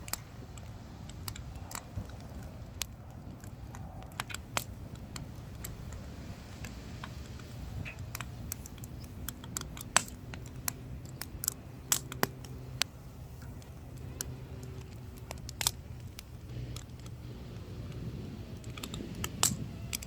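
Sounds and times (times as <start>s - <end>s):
firewood crackling and snapping: 0.0s - 20.0s
low steady hum: 0.0s - 20.0s.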